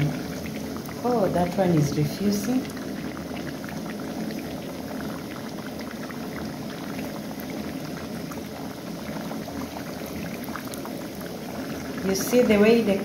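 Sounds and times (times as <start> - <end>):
dough deep-frying in oil: 0.0 - 13.0.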